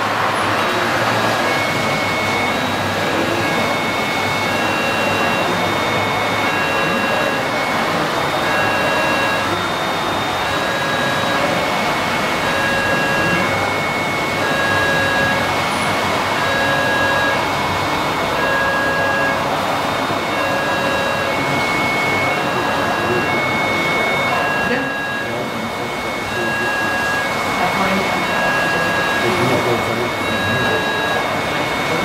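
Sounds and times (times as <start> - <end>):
rushing hall noise: 0.0 - 32.0.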